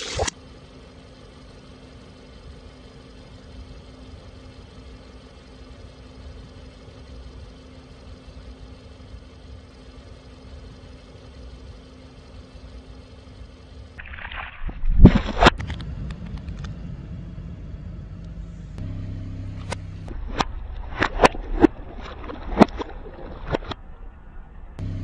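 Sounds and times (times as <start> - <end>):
car engine idling: 0.3 - 14.1, 15.4 - 25.0.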